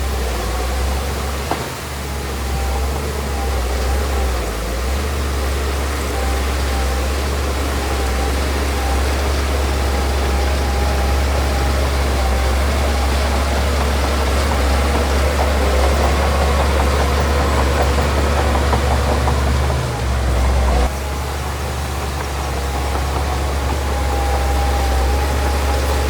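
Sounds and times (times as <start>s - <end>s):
diesel machine engine running: 0.0s - 26.0s.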